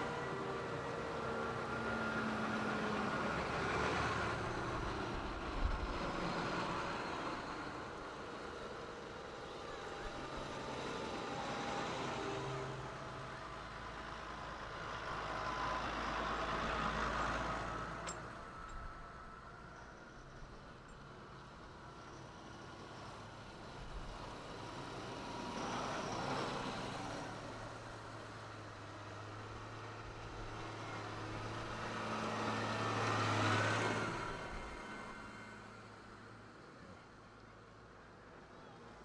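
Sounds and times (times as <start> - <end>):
tractor engines running: 0.0 - 37.4.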